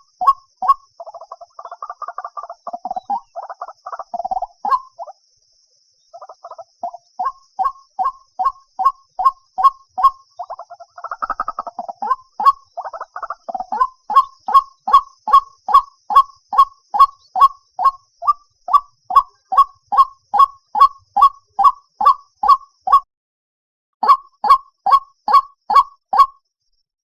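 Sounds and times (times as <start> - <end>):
waterhen calling: 0.0 - 5.2, 6.1 - 23.0, 24.0 - 26.3.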